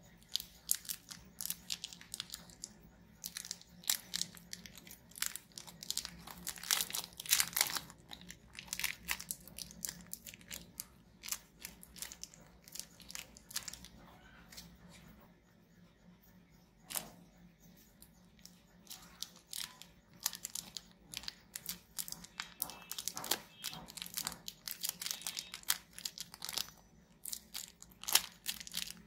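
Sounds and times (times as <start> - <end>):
cellophane wrapper crinkling: 0.1 - 14.9, 18.4 - 29.0.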